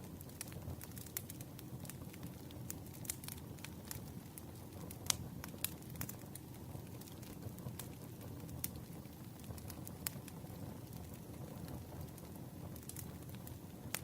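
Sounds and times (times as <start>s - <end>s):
campfire crackling: 0.0s - 14.0s
fire pops and snaps: 0.0s - 14.0s.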